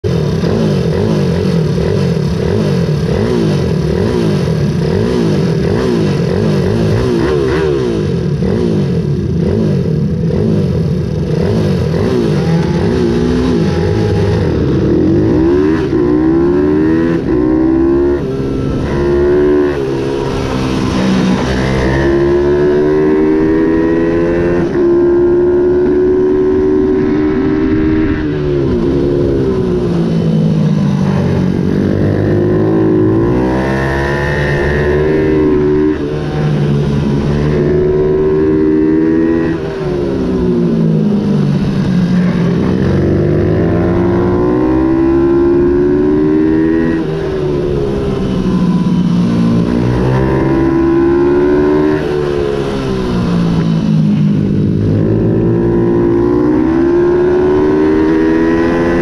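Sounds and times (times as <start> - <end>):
minibike engine revving: 0.0 - 59.0.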